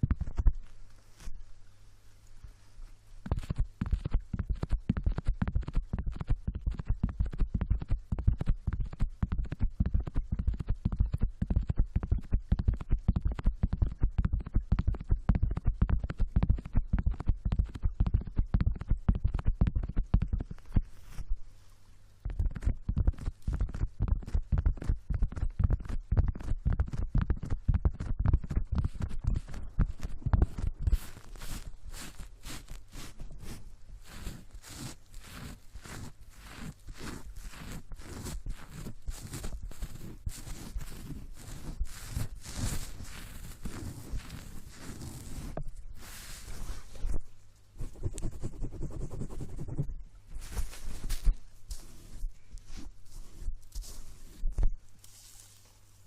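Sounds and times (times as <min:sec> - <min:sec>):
hair scratching and rubbing: 0:03.2 - 0:21.4, 0:22.5 - 0:47.2, 0:47.8 - 0:56.0.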